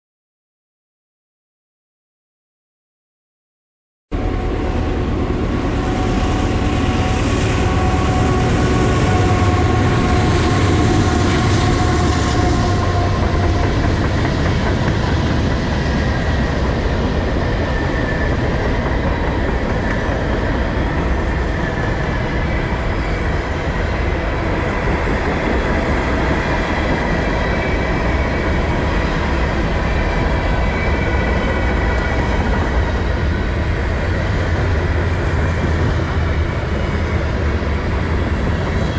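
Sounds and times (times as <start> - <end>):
freight train wheels rumbling on rail: 4.2 - 38.9.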